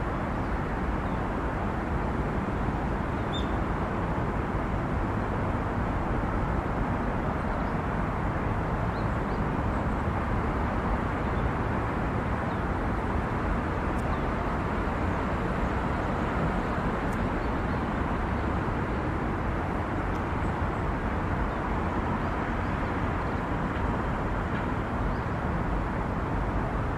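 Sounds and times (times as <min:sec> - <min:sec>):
distant road traffic rumble: 0:00.0 - 0:26.9.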